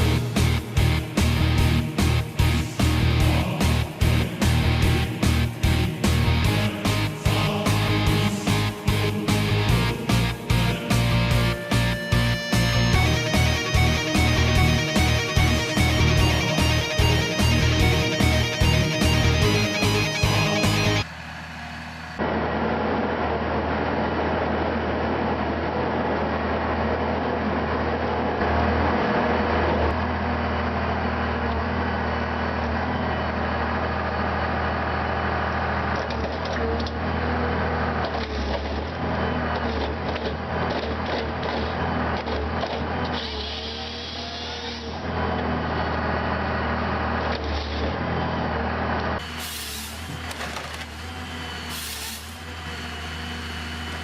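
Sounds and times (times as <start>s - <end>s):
wood-processing machine humming: 0.0s - 54.0s.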